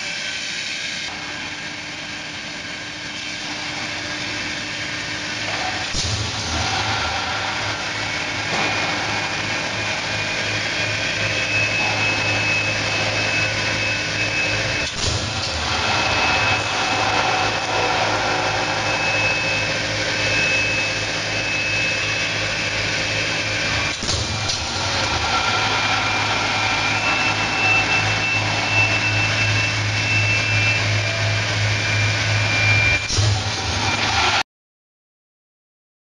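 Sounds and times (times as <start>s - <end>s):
continuous mechanical noise: 0.0s - 34.4s
high whine: 0.0s - 34.4s
machine low hum: 0.0s - 34.4s.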